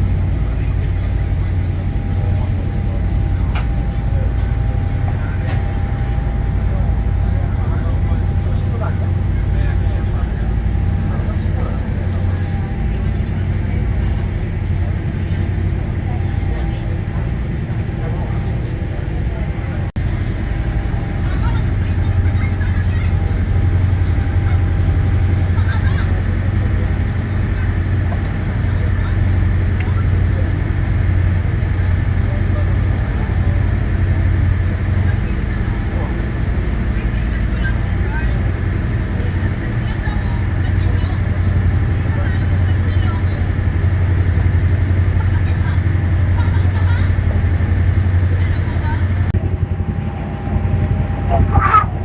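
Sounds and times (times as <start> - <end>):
faint steady whine: 0.0 - 49.4
faint voices: 0.0 - 49.4
ferry engines droning: 0.0 - 49.5.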